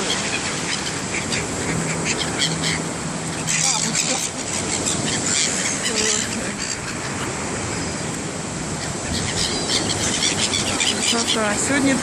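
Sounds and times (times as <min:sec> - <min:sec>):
surf washing onto shore: 0:00.0 - 0:12.0.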